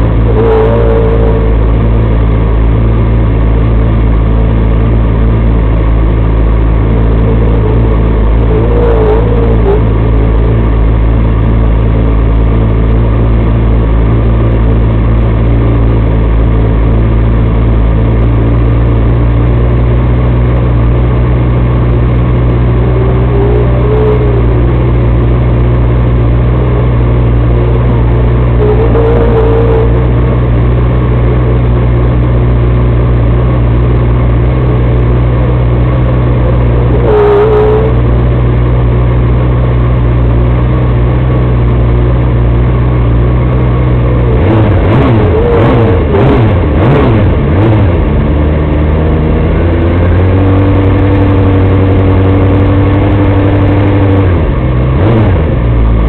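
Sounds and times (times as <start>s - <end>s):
engine revving in blips: 0.0s - 56.0s
small engine idling: 0.0s - 56.0s.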